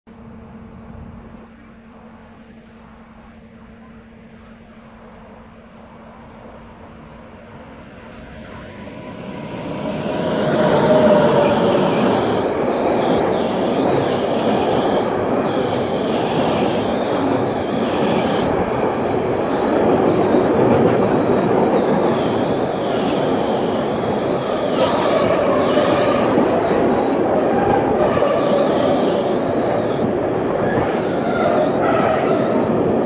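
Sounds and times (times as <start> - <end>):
freight train passing: 0.1 - 33.0.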